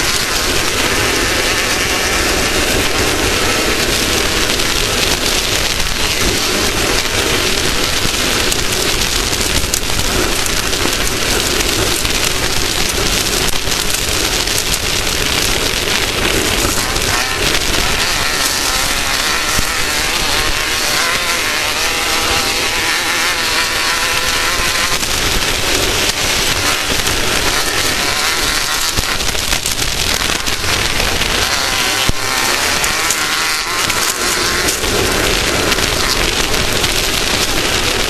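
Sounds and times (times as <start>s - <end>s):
loud steady rushing noise: 0.0s - 38.0s
race vehicle engine revving: 0.0s - 38.0s.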